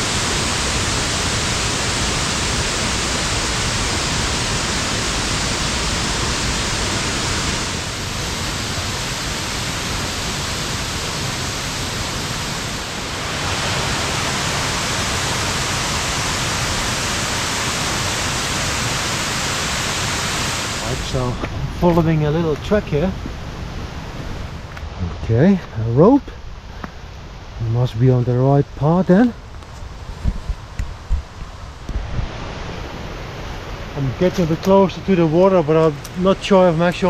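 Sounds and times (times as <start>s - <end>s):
creek water rushing: 0.0s - 27.8s, 28.9s - 37.0s.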